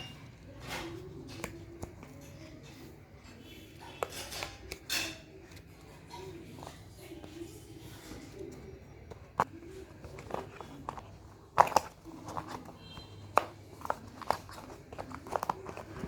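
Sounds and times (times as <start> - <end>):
clicks and knocks of handling: 0.0 - 16.0.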